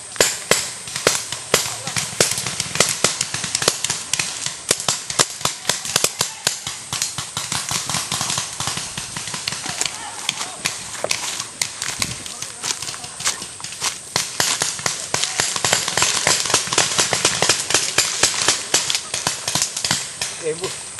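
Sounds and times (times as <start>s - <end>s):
paintball markers firing: 0.1s - 20.7s.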